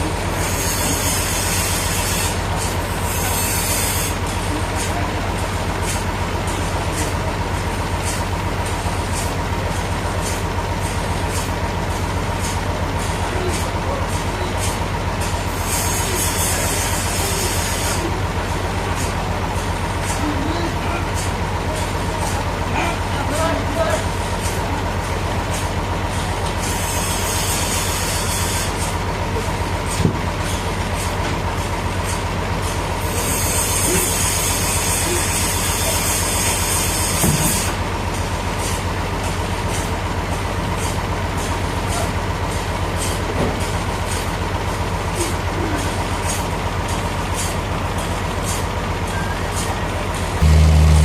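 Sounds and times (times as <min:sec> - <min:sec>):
sawmill engine hum: 0:00.0 - 0:51.0.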